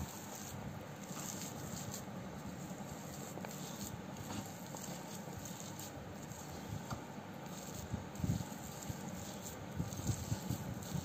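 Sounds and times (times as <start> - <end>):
hand mixing mashed food: 0.0 - 11.0.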